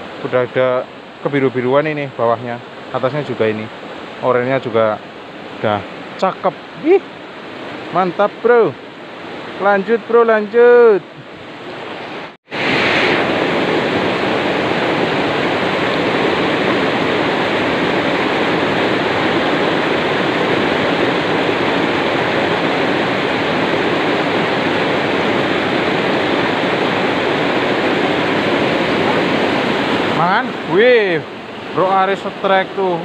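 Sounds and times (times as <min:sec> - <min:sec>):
river water rushing over boulders: 0:00.0 - 0:33.0.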